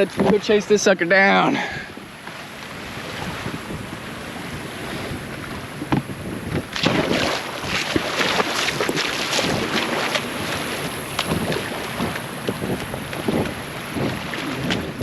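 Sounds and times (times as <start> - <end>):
water splashing: 0.0 - 15.0
wind buffeting microphone: 0.0 - 15.0.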